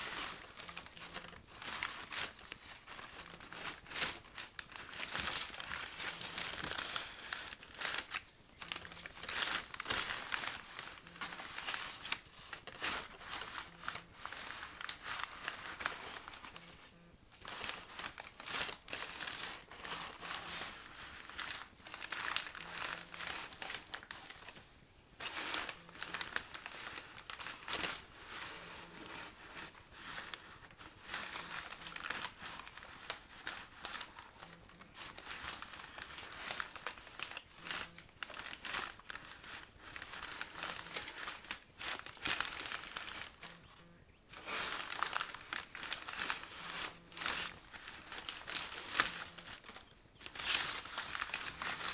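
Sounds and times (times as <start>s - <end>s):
paper bags crinkling: 0.0s - 51.9s.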